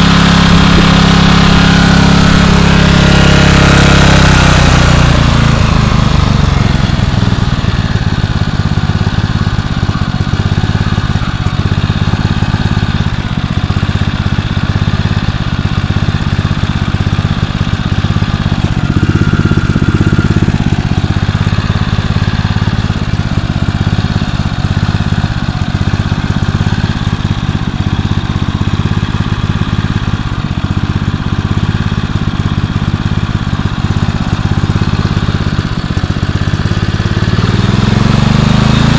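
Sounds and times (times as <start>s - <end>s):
portable generator engine running: 0.0s - 38.9s.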